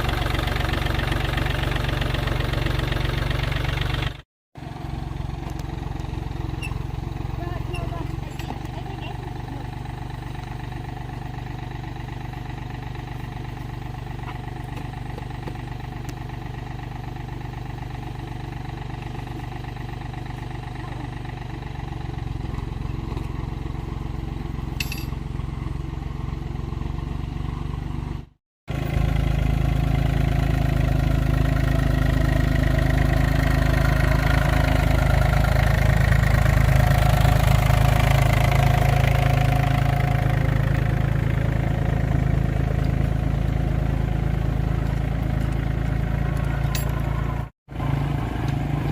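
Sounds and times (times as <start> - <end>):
engine rumbling: 0.0 - 48.9.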